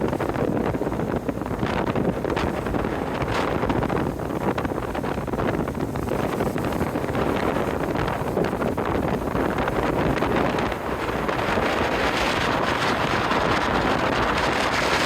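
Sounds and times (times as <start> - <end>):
ship running noise: 0.0 - 15.0
wind buffeting microphone: 0.0 - 15.0.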